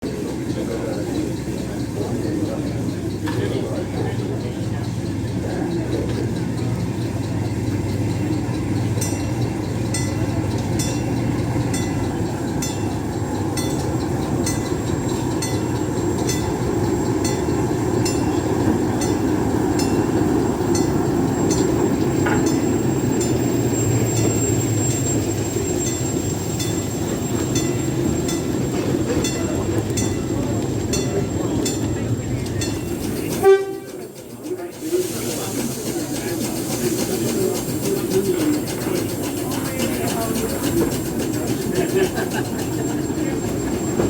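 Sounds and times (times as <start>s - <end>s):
train running drone: 0.0s - 44.0s.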